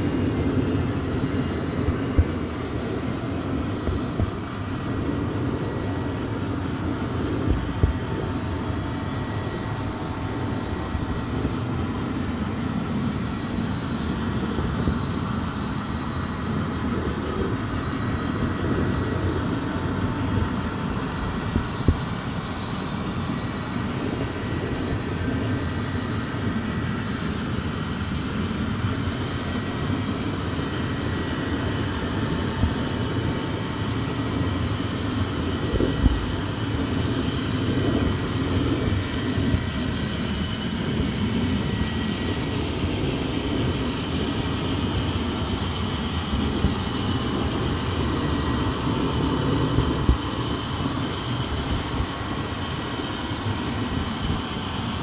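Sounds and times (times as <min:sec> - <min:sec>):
faint whine: 0:00.0 - 0:55.0
train running rumble: 0:00.0 - 0:55.0.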